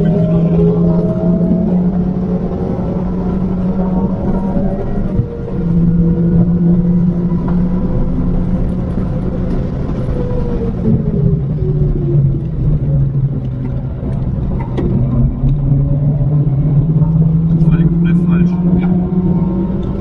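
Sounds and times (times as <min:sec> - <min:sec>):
car engine at speed: 0:00.0 - 0:20.0.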